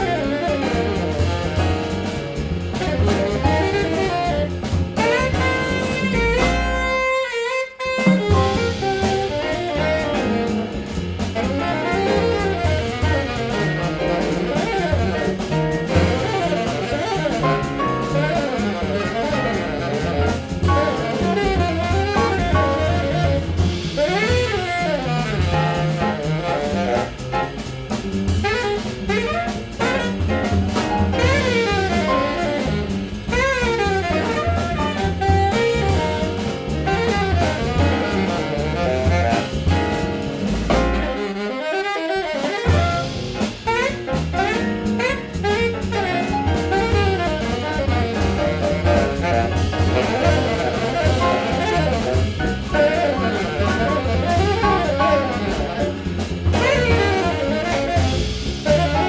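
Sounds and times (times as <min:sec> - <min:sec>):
double bass: 0:00.0 - 0:41.4, 0:42.4 - 0:59.0
drum kit: 0:00.0 - 0:59.0
piano: 0:00.0 - 0:59.0
saxophone: 0:00.0 - 0:59.0.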